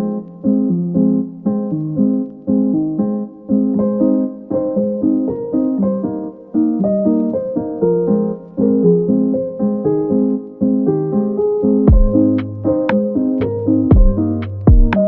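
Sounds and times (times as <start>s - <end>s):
mellow electric piano chords: 0.0s - 15.0s.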